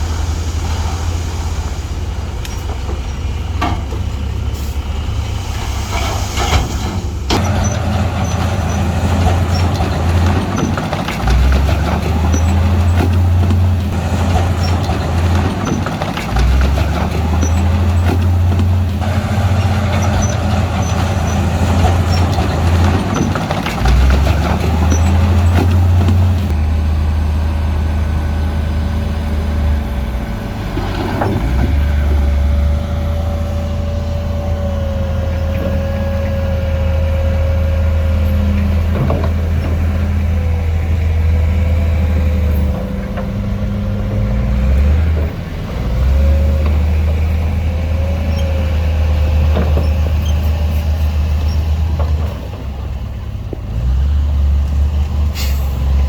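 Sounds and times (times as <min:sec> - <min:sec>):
diesel machinery engine drone: 0:00.0 - 0:56.0.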